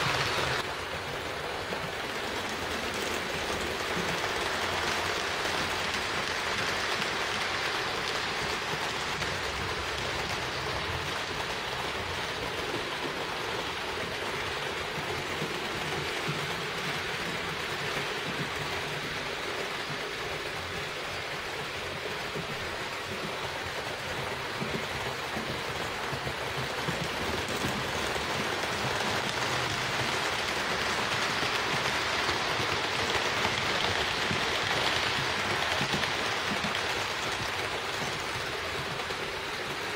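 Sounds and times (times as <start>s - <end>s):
model trains rattling on track: 0.0s - 39.9s.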